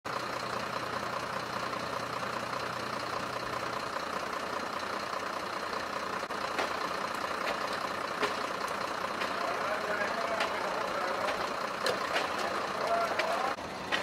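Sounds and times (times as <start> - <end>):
fire truck engine idling: 0.1 - 14.0.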